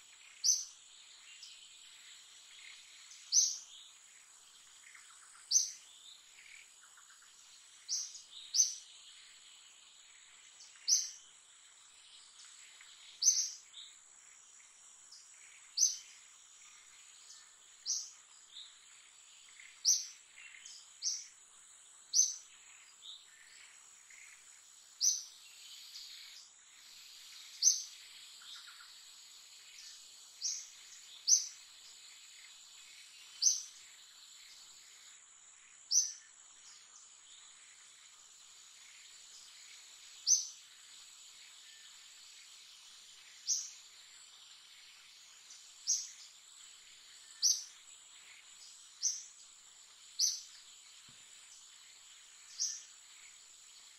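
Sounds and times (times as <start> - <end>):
bird chirps: 0.1 - 4.0, 4.7 - 9.7, 10.3 - 11.2, 12.2 - 14.0, 14.6 - 21.4, 22.1 - 34.9, 35.7 - 38.1, 38.8 - 49.5, 50.1 - 53.9.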